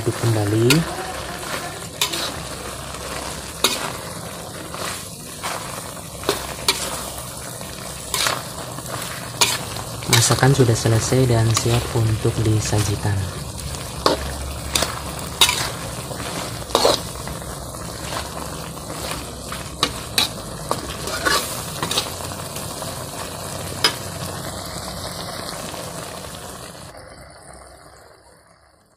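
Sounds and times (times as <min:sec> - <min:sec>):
mussels sizzling in a pan: 0:00.0 - 0:28.8.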